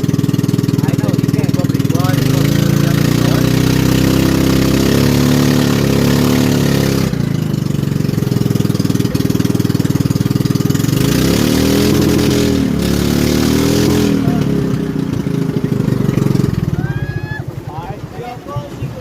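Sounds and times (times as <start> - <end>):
boat motor revving: 0.0 - 19.0.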